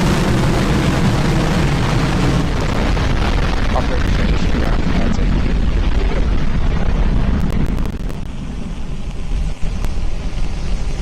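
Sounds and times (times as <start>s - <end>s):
rocket engines rumbling: 0.0s - 11.0s.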